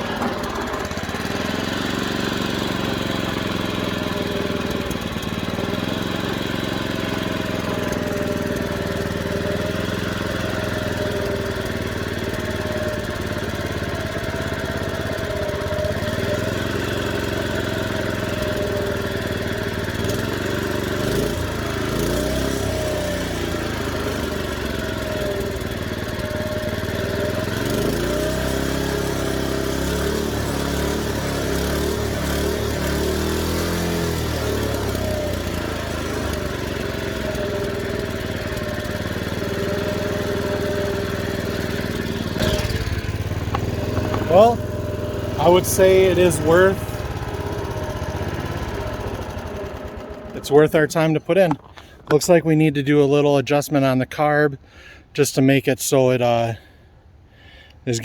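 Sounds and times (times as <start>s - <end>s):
lawn mower engine running: 0.0s - 55.2s.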